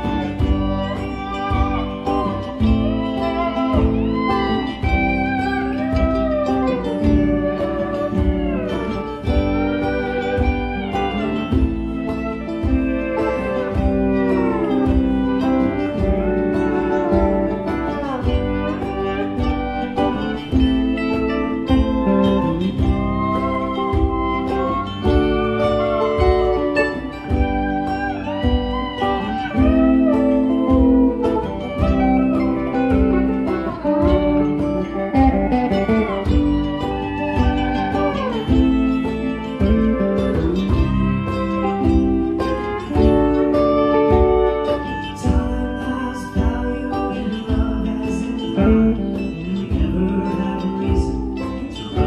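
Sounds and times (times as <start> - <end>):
accompanying guitar: 0.0 - 52.0
electric guitar lead sliding: 0.0 - 52.0
hand drums beat: 0.0 - 52.0.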